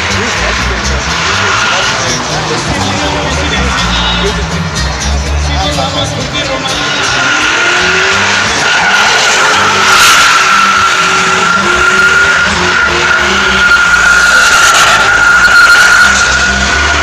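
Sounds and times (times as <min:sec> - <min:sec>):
truck engine at high revs: 0:00.0 - 0:17.0
tyres squealing: 0:01.0 - 0:17.0.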